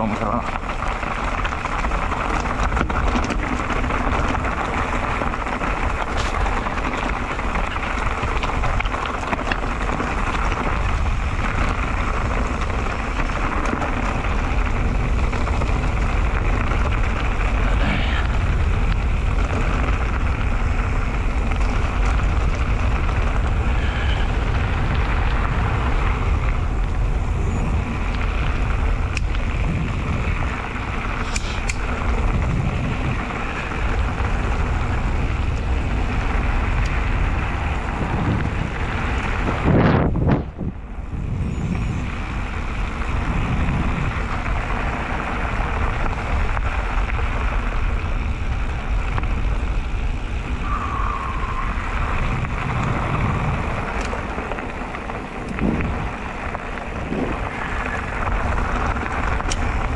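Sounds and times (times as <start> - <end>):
tyres crunching on stones: 0.0 - 40.8, 41.8 - 59.9
bike clicks and rattles: 0.0 - 59.9
wind rumble on microphone: 0.0 - 59.9.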